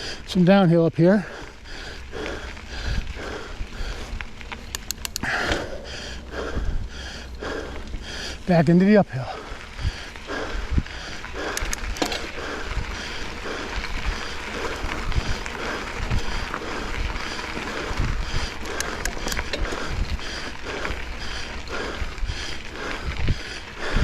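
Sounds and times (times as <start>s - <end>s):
bike clicks and rattles: 0.0s - 24.0s
bike tyres rolling on dirt: 0.0s - 24.0s
wind rumbling on microphone: 1.3s - 8.6s, 9.2s - 24.0s.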